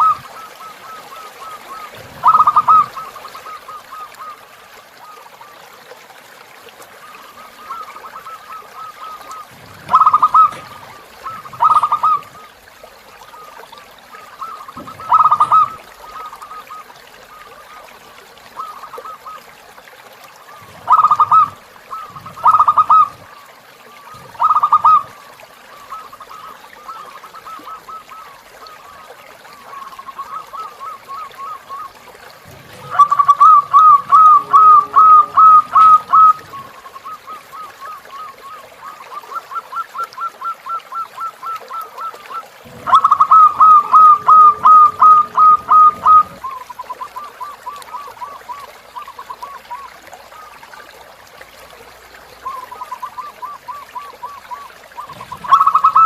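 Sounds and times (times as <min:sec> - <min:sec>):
dove cooing: 0:00.0 - 0:04.4, 0:07.3 - 0:12.6, 0:14.1 - 0:17.7, 0:20.5 - 0:23.4, 0:24.0 - 0:49.9, 0:52.4 - 0:56.0
faint river water hiss: 0:00.0 - 0:56.0.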